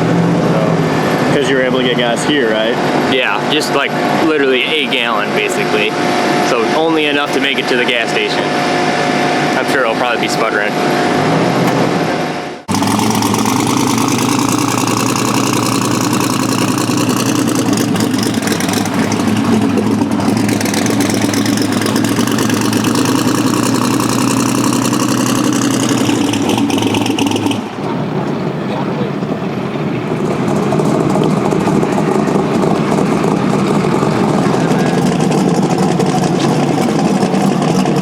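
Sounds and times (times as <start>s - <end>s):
drag car engine idling: 0.0s - 38.0s.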